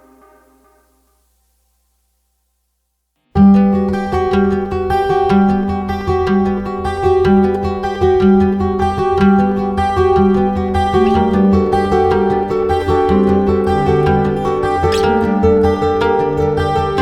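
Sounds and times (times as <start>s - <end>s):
plucked guitar-like instrumental: 3.4s - 17.0s.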